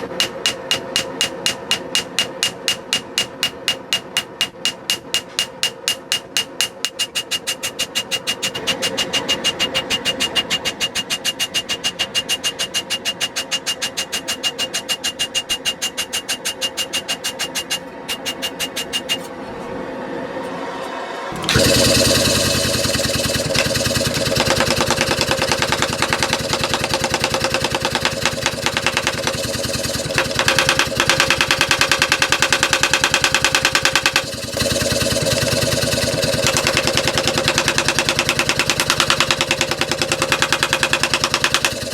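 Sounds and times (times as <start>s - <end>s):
steady rhythmic machine: 0.0s - 19.2s, 21.3s - 41.9s
power hammer blows: 0.0s - 19.4s, 21.2s - 41.9s.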